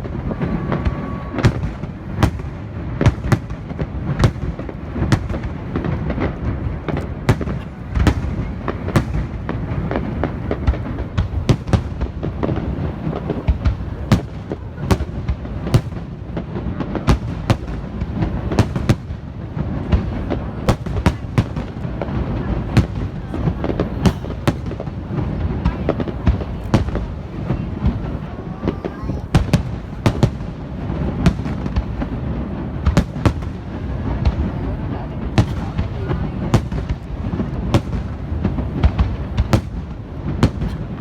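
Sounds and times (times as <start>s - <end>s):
fireworks bangs: 0.0s - 41.0s.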